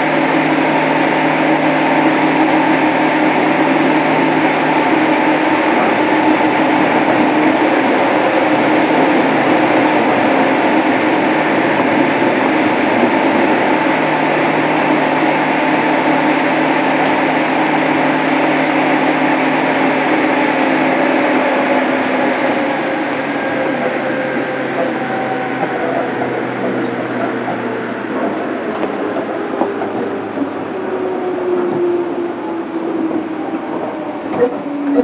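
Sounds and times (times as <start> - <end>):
train wheels on rail: 0.0 - 35.0.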